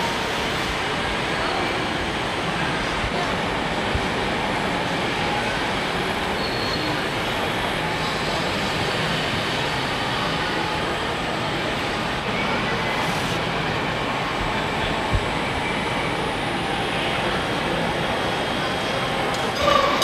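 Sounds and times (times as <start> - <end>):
din of busy hall: 0.0 - 20.0.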